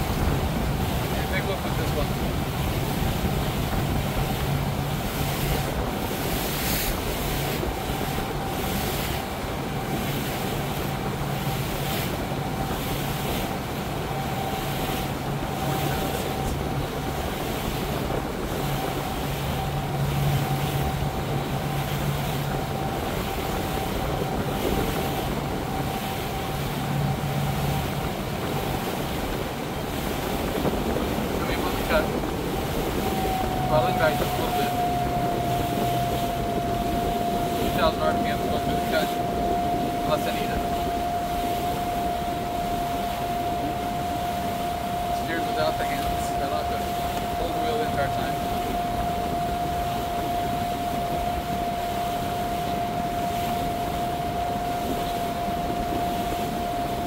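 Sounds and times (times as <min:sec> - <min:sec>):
motorboat engine humming: 0:00.0 - 0:57.0
thin steady whine: 0:00.0 - 0:57.0
water rushing from wake: 0:00.0 - 0:57.0
wind buffeting microphone: 0:00.0 - 0:57.0.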